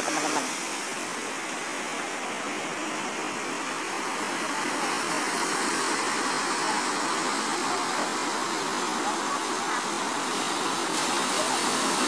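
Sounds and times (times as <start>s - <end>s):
waves breaking on shore: 0.0s - 12.0s.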